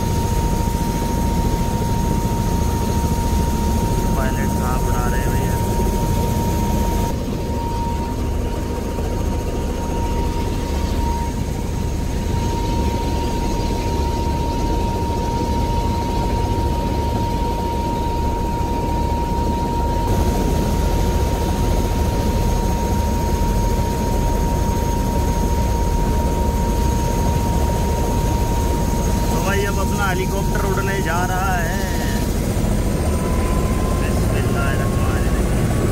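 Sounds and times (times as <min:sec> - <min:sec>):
helicopter engine and rotor: 0:00.0 - 0:35.9.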